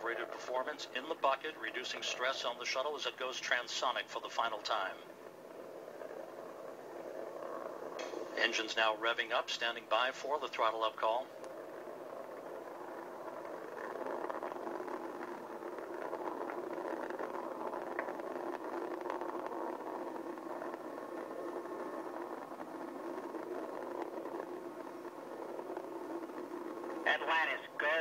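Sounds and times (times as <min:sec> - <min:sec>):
rocket launch rumble: 0:00.0 - 0:28.0.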